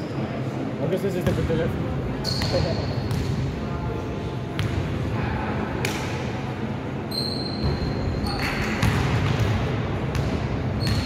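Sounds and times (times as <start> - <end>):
sports hall background noise: 0.0 - 11.0.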